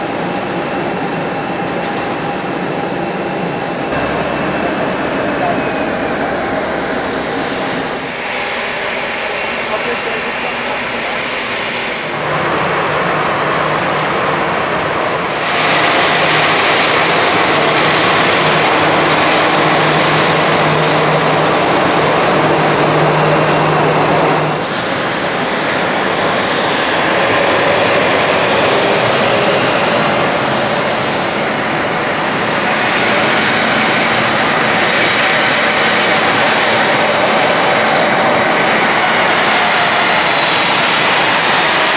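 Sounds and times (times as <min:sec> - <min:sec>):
jet engines hissing and whining: 0:00.0 - 0:41.9.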